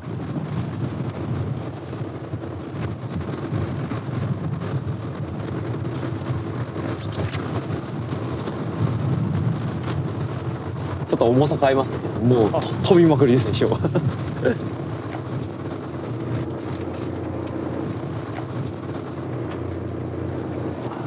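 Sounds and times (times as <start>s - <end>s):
boat engine humming: 0.0s - 21.0s
choppy sea wash: 0.0s - 21.0s
wind on microphone: 0.0s - 21.0s.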